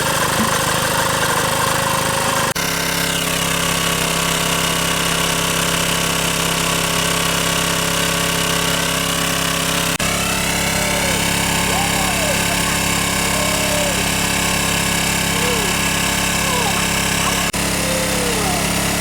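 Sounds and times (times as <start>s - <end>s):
engine-driven water pump running: 0.0s - 19.0s.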